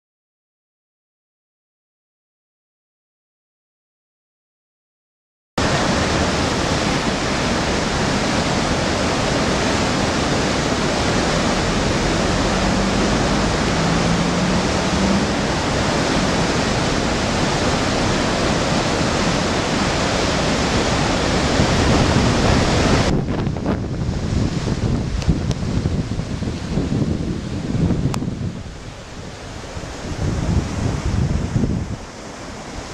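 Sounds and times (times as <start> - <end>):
river rushing over rocks: 5.6 - 32.9.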